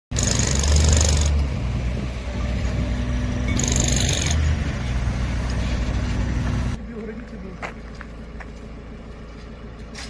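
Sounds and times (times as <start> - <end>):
diesel engine running: 0.1 - 10.0.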